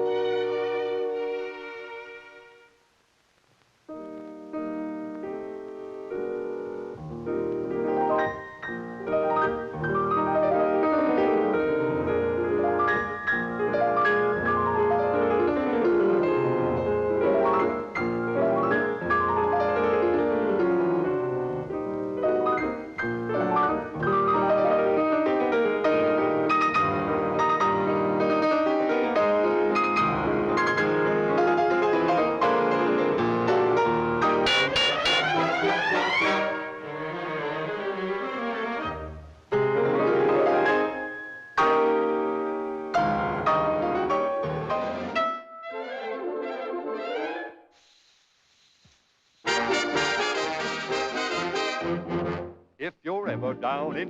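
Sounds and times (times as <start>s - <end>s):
piano music: 0.0s - 2.4s, 3.9s - 47.5s, 49.5s - 54.0s.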